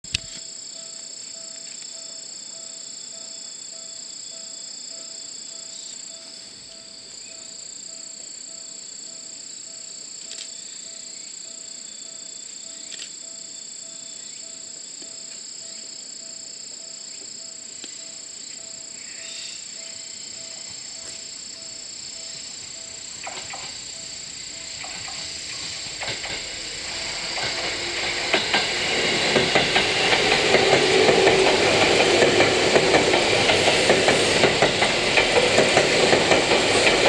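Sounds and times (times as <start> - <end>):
faint pulsing tone: 0.1 - 31.6
insects droning: 0.1 - 37.0.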